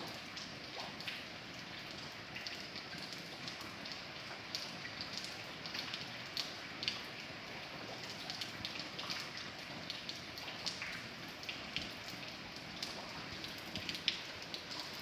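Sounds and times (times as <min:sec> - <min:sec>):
raindrops ticking on a surface: 0:00.0 - 0:15.0.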